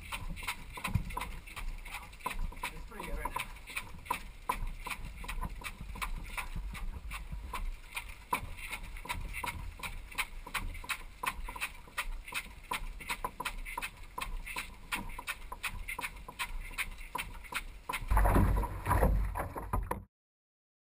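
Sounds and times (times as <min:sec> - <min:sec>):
water and movement noise: 0:00.0 - 0:20.1.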